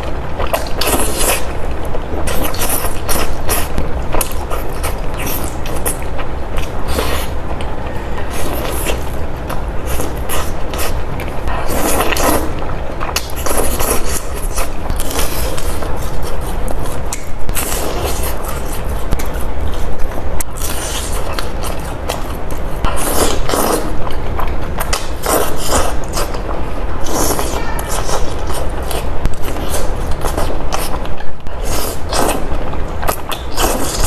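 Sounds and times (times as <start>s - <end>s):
slurping and chewing noodles: 0.0s - 34.0s.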